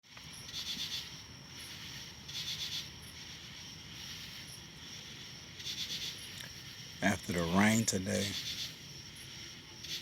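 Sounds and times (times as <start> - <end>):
insects droning: 0.0 - 10.0
faint high insect chirps: 0.1 - 10.0
insect pulsed trill: 0.1 - 10.0.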